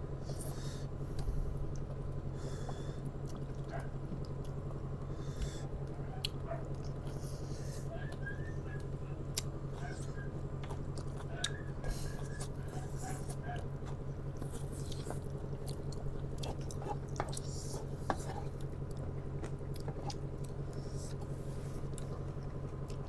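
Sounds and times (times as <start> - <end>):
low hum: 0.0 - 23.0
people chewing noodles: 0.2 - 23.0.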